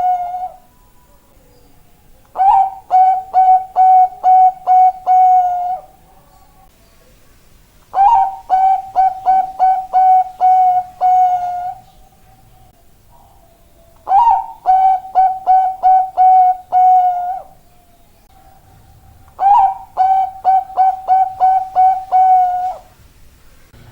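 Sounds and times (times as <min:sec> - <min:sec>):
dove cooing: 0:00.0 - 0:01.3, 0:02.3 - 0:06.7, 0:07.9 - 0:23.0.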